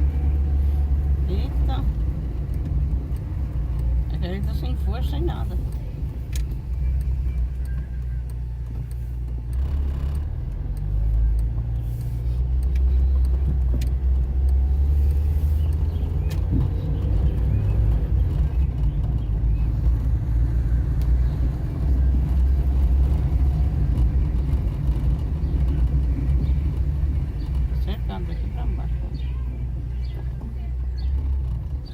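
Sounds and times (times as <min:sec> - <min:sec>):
car engine and road rumble: 0:00.0 - 0:31.9.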